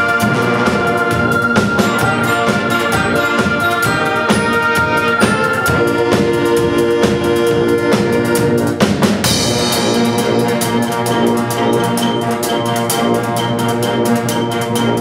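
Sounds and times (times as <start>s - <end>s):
band playing live: 0.0s - 15.0s
drum kit and bass drum beating: 0.0s - 15.0s.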